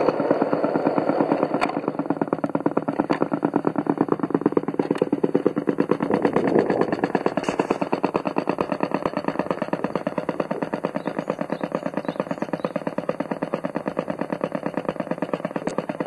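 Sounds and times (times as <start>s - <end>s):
simulated diesel engine chugging: 0.0s - 16.0s.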